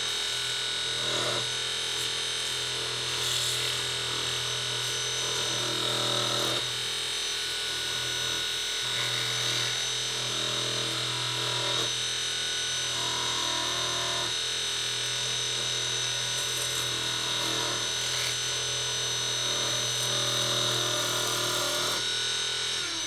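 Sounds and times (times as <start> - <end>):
electric motor humming and whining: 0.0 - 23.0.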